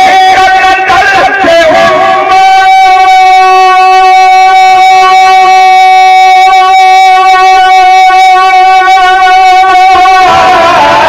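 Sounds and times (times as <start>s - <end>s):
man singing over loudspeakers: 0.0s - 11.0s.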